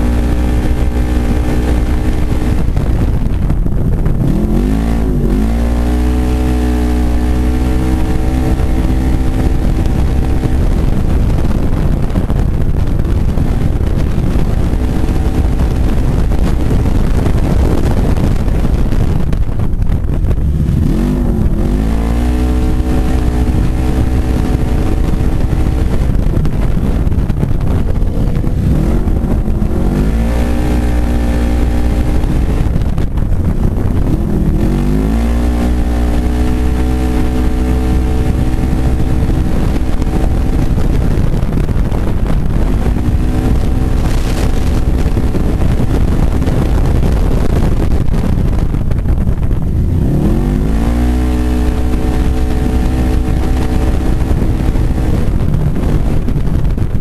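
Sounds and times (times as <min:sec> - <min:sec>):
loud wind: 0:00.0 - 0:57.0
utv engine accelerating: 0:00.0 - 0:57.0.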